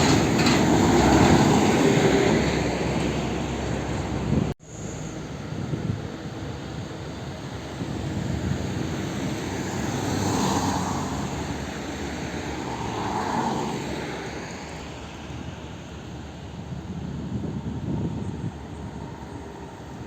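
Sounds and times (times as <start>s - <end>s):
heavy trucks driving past: 0.0s - 17.0s.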